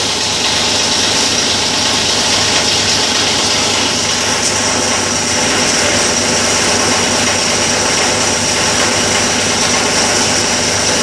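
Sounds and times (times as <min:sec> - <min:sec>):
plastic grinder machine drone: 0:00.0 - 0:11.0.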